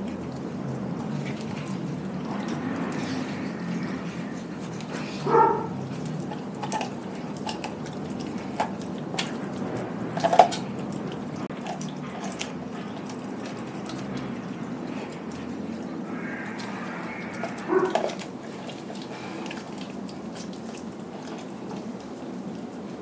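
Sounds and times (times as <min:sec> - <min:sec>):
dog chewing wetly: 0:00.0 - 0:23.0.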